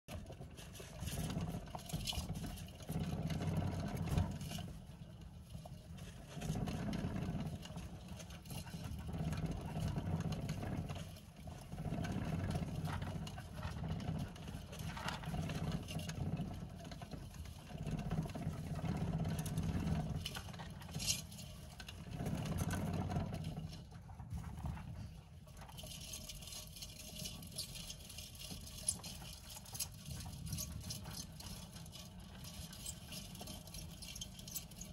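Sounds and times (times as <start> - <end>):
plastic hamster wheel rumbling: 0.1 - 34.9.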